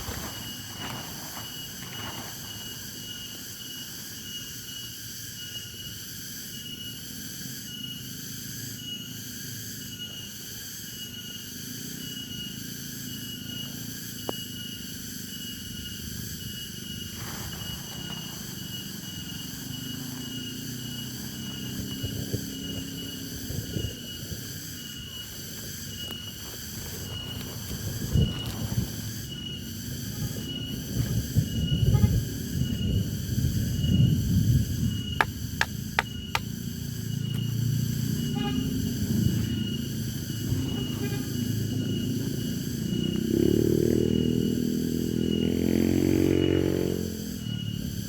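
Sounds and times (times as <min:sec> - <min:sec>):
insect chirping: 0:00.0 - 0:48.0
insects buzzing: 0:00.0 - 0:48.0.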